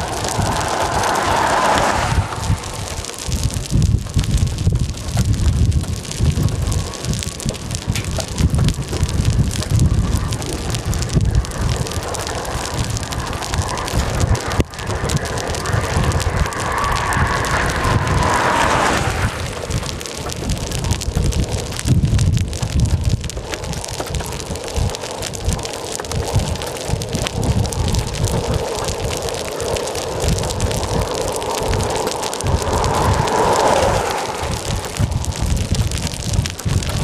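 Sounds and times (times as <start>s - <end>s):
storm rain hiss: 0.0s - 37.0s
wind buffeting microphone: 0.0s - 37.0s.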